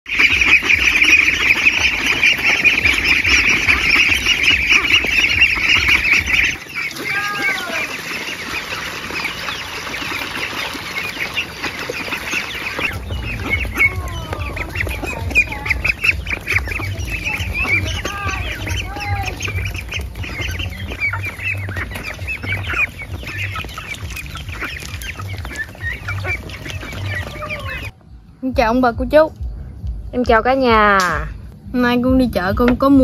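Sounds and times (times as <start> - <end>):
chickens clucking: 0.0 - 28.0
ducklings peeping and quacking: 0.0 - 33.0.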